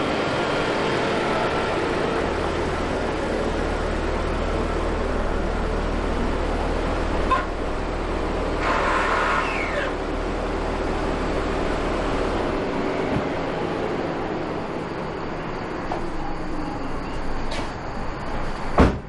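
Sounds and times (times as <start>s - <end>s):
car engine running: 0.0s - 18.2s.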